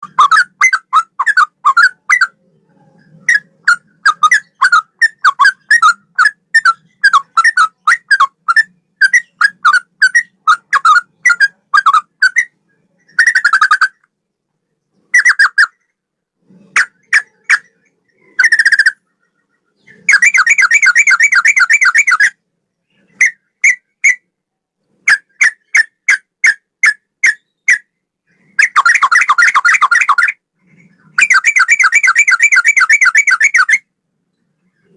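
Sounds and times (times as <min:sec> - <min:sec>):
bird whistling and trilling: 0:00.0 - 0:02.4, 0:03.0 - 0:14.0, 0:15.0 - 0:15.9, 0:16.7 - 0:19.1, 0:19.8 - 0:22.4, 0:23.0 - 0:24.3, 0:25.1 - 0:30.4, 0:31.1 - 0:33.9.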